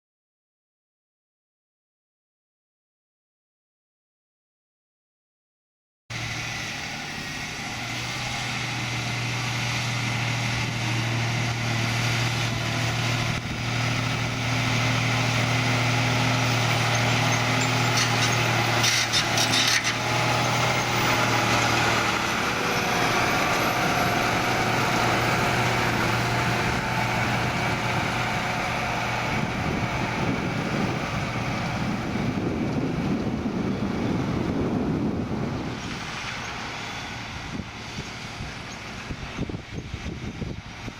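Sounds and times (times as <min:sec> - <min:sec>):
tractor diesel engine under load: 0:06.1 - 0:40.9.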